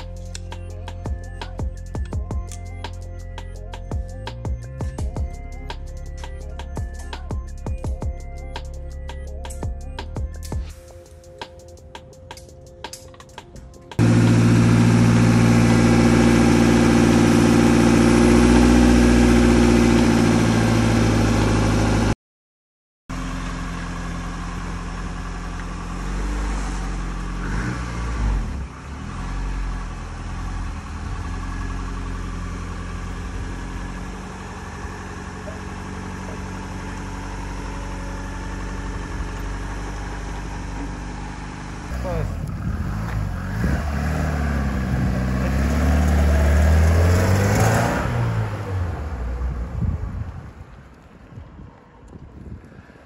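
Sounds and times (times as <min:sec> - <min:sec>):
car engine idling and revving: 0:00.0 - 0:10.9, 0:13.4 - 0:22.2, 0:23.1 - 0:53.0.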